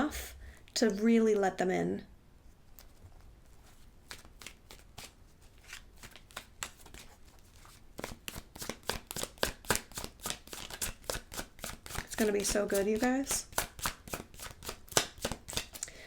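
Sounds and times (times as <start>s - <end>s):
cards being shuffled: 2.7s - 15.9s.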